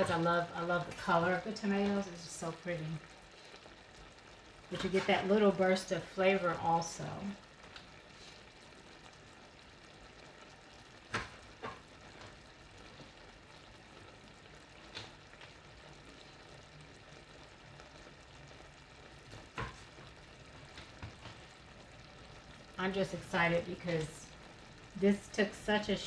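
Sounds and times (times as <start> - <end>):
sauce sizzling in a frying pan: 0.0 - 26.0.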